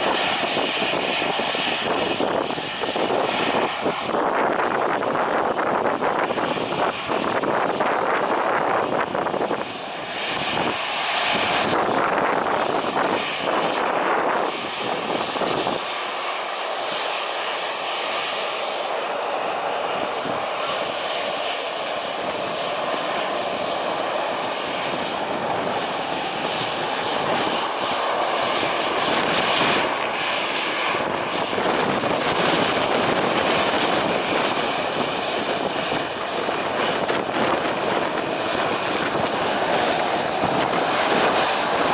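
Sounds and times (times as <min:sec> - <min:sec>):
airplane engines running: 0:00.0 - 0:41.9.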